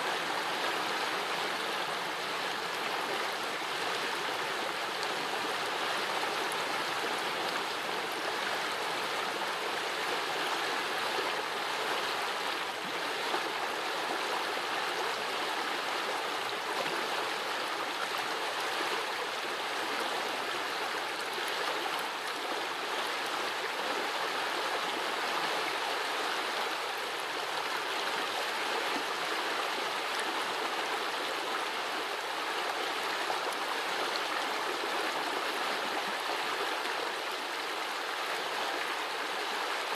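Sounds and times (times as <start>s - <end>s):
brook babbling and gurgling: 0.0s - 39.9s.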